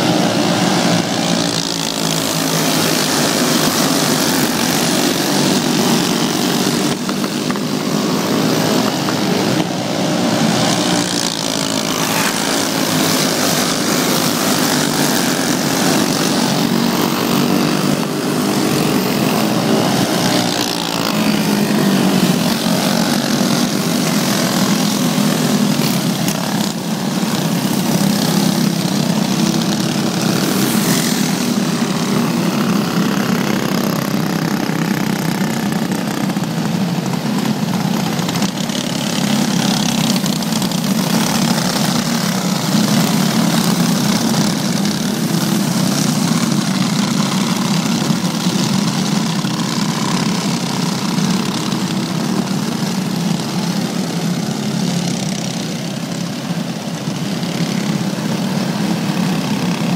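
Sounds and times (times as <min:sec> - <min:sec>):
racing kart engines passing: 0:00.0 - 0:59.9.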